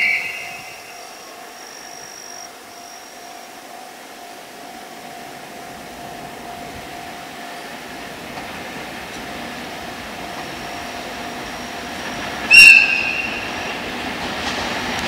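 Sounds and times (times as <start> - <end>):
faint steady tone: 0.0 - 14.2
electric locomotive hum and rush: 0.0 - 15.0.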